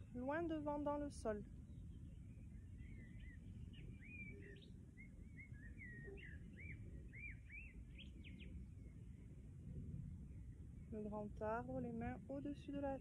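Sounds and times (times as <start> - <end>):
low rumble: 0.0 - 13.0
songbird singing: 0.0 - 13.0.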